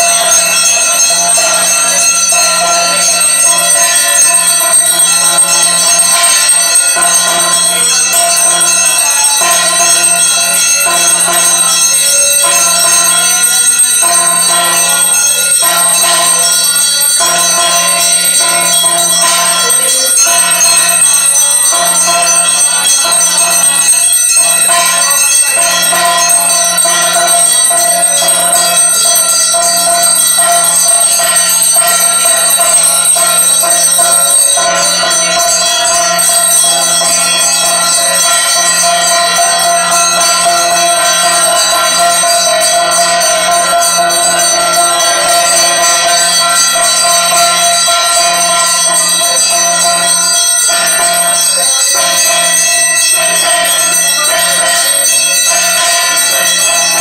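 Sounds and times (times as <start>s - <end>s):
temple bells ringing: 0.0s - 57.0s.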